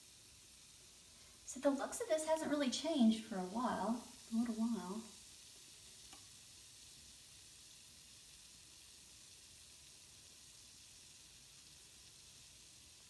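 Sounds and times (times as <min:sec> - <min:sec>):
bath bomb fizzing: 0:00.0 - 0:13.0.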